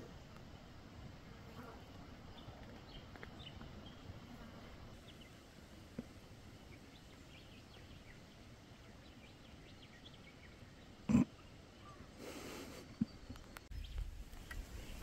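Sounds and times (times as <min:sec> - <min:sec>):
faint bush ambience: 0:00.0 - 0:15.0.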